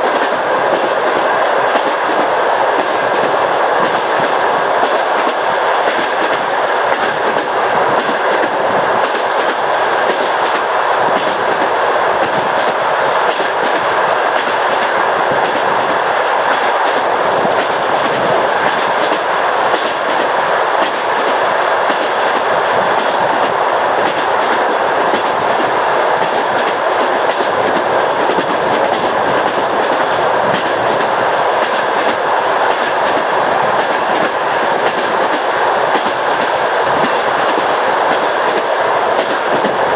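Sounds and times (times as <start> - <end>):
train wheels rumbling on track: 0.0 - 39.9
wheels clicking over rail joints: 0.0 - 39.9.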